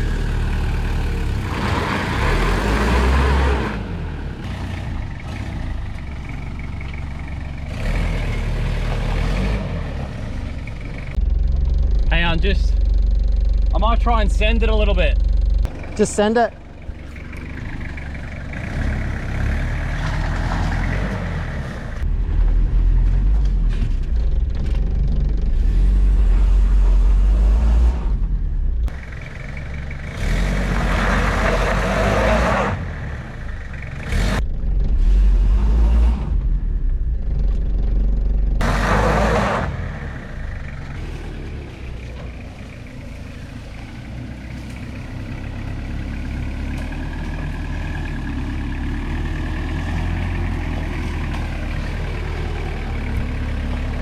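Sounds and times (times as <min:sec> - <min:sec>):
car engine rumbling on rough track: 0:00.0 - 0:54.0.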